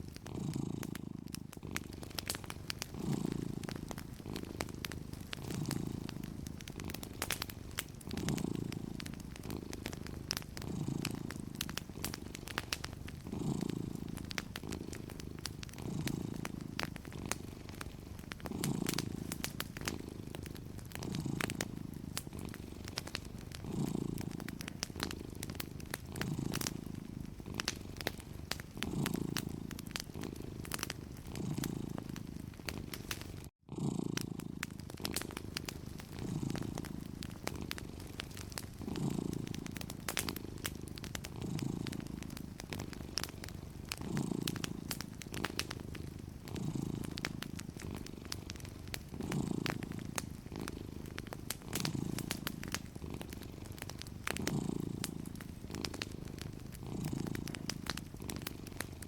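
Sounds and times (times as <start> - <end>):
cat purring: 0.0 - 59.0
fireplace crackling: 0.0 - 59.0.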